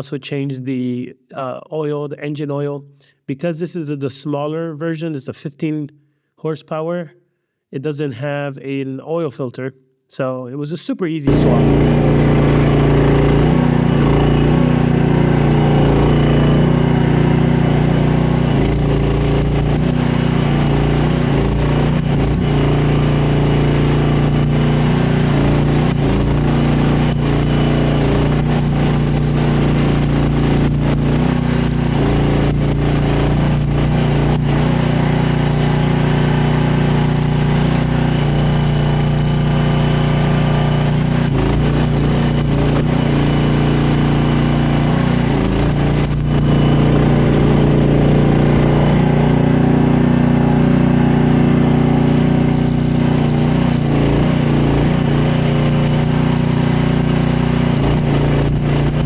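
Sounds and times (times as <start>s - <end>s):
small engine running steadily: 11.3s - 59.0s.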